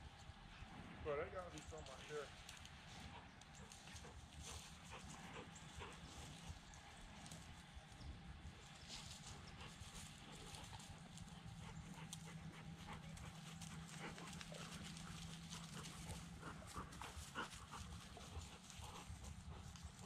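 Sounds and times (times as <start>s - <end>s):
faint low hum: 0.0s - 20.0s
footsteps crunching through dry field: 1.7s - 20.0s.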